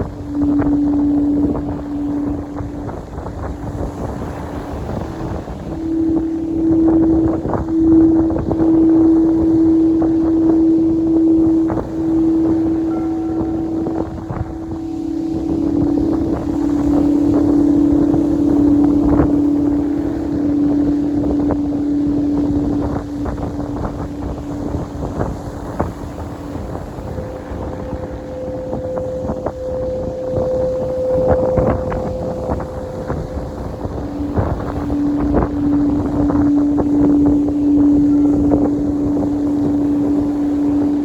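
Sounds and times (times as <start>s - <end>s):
steady held tone: 0.0s - 41.0s
wind buffeting microphone: 0.0s - 41.0s.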